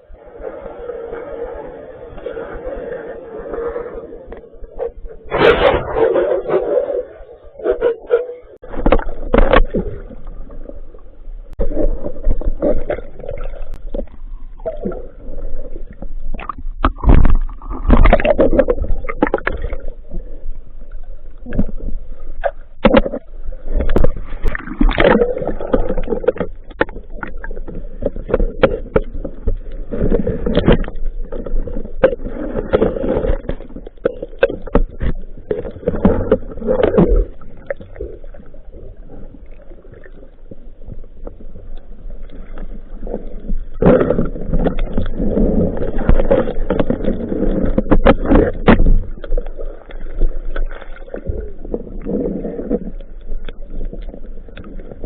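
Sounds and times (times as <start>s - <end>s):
underwater gurgling and bubbling: 0.0s - 55.0s.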